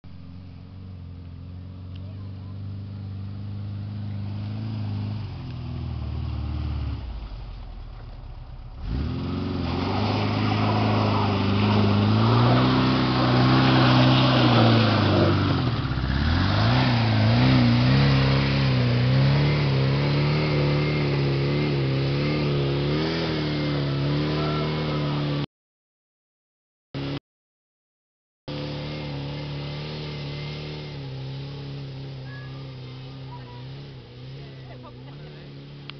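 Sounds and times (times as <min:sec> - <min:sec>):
buggy engine revving under load: 0:00.8 - 0:25.5, 0:28.5 - 0:35.9.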